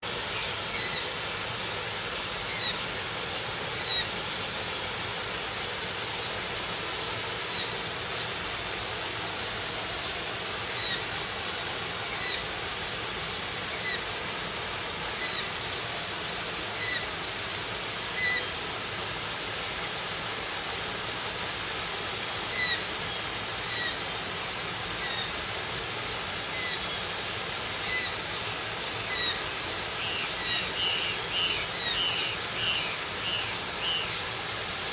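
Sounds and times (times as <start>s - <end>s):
steady rushing hiss: 0.0s - 34.9s.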